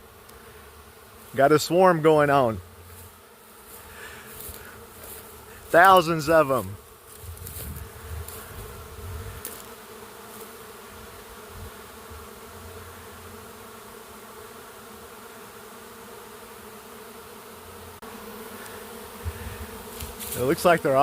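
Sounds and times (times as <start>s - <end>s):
bee swarm humming: 0.0s - 21.0s.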